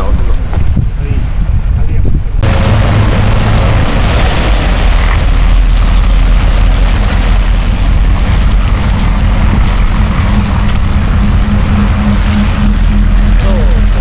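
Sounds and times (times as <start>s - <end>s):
boat engine droning: 2.4s - 14.0s
water churning and splashing: 2.4s - 14.0s.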